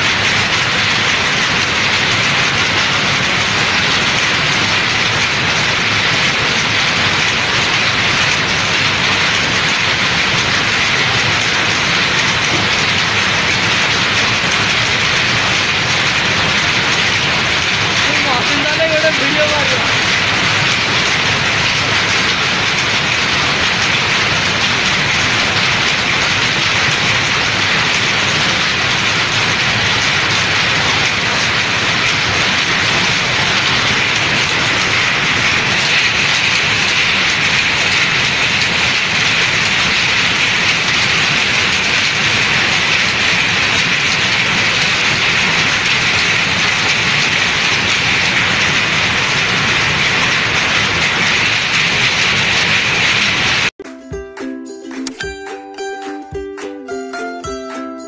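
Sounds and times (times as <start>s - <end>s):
textile machinery clattering: 0.0s - 54.2s.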